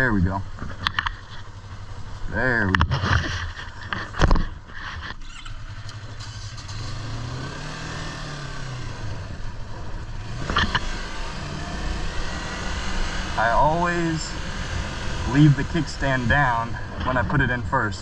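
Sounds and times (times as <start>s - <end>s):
low engine tone: 0.0s - 18.0s.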